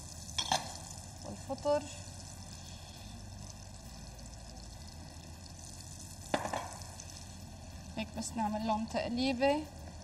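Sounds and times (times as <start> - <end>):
meat and vegetables sizzling in pan: 0.0 - 10.0.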